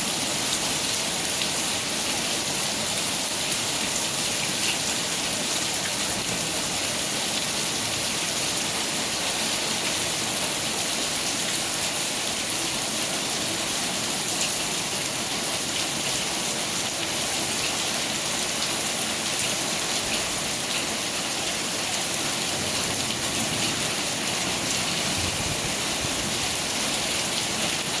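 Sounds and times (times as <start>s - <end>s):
rain falling steadily: 0.0s - 28.0s.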